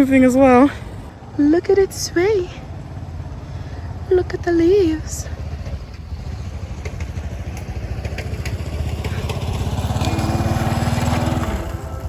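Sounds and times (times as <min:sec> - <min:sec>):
vehicle engine passing by: 0:00.0 - 0:12.0.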